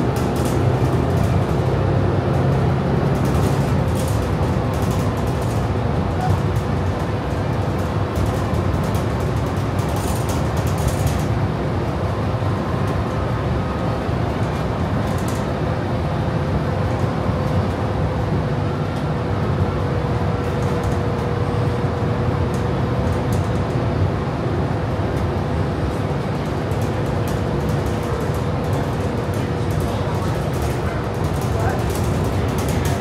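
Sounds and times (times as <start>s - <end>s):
vehicle interior rumble: 0.0s - 33.0s.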